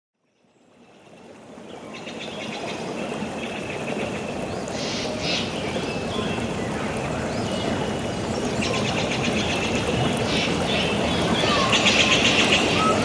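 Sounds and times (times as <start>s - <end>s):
flowing water rushing: 0.4s - 13.0s.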